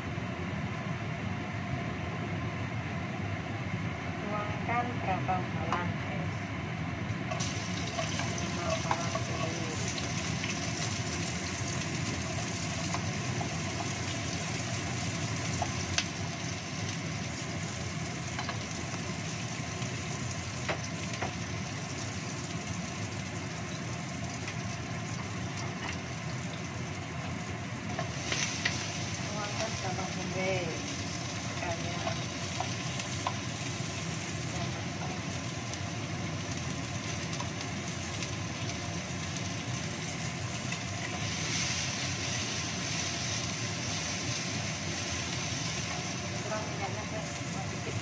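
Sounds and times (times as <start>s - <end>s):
shallots and garlic sizzling: 7.1s - 48.0s.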